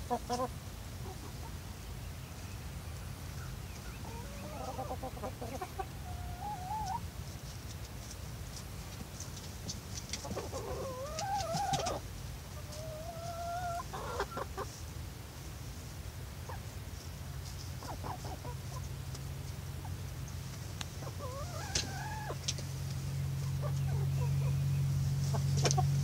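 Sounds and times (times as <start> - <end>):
hens clucking and calling: 0.0 - 7.1, 9.2 - 14.9, 16.4 - 26.0
low steady hum: 0.0 - 26.0.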